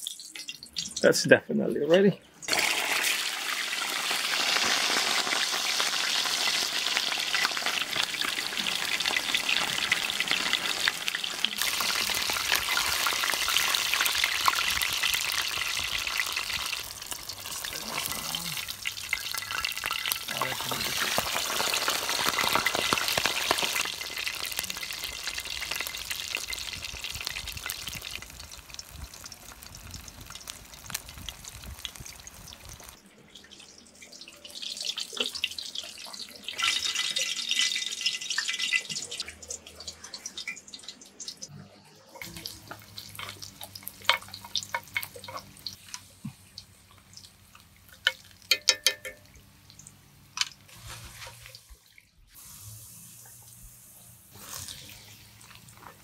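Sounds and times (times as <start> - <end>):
fish sizzling in hot oil: 2.4 - 33.0, 34.2 - 41.4, 42.2 - 56.0.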